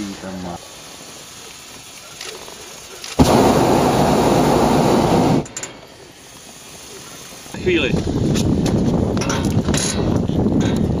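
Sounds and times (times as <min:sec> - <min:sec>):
propane burner blast: 0:00.0 - 0:11.0.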